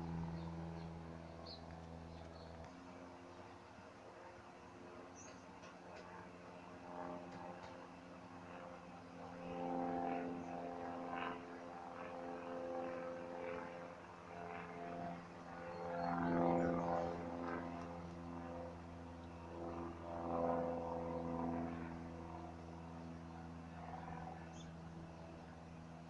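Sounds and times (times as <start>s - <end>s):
propeller plane engine: 0.0s - 26.0s.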